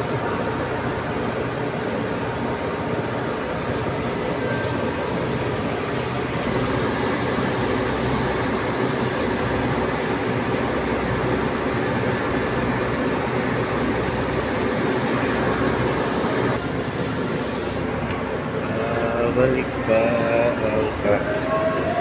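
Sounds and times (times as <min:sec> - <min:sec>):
machinery rumble: 0:00.0 - 0:22.0.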